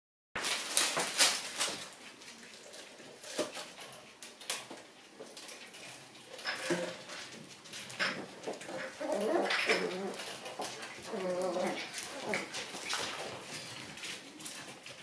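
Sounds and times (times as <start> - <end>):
paws clicking on hard floor: 0.4 - 15.0.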